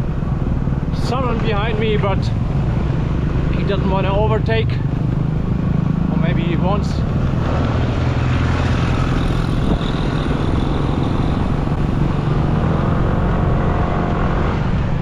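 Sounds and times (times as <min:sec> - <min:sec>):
road and wind noise: 0:00.0 - 0:15.0
vehicle engine running: 0:00.0 - 0:15.0.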